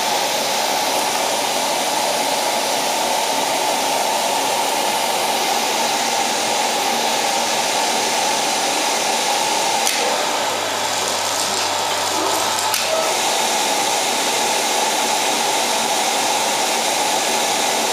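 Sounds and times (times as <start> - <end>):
pellet burner fan rushing: 0.0 - 17.9.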